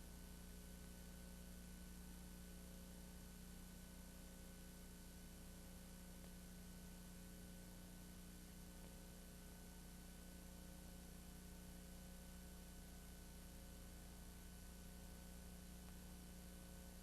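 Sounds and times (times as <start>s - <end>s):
faint low hum and hiss: 0.0s - 17.0s.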